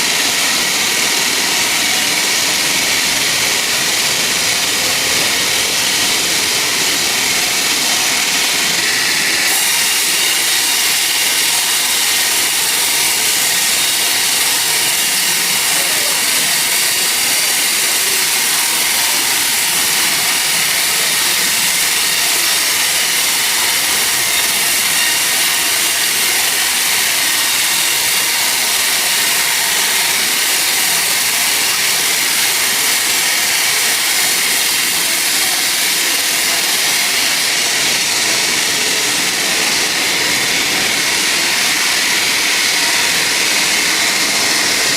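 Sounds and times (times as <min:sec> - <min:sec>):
sawmill saw cutting log: 0:00.0 - 0:44.9.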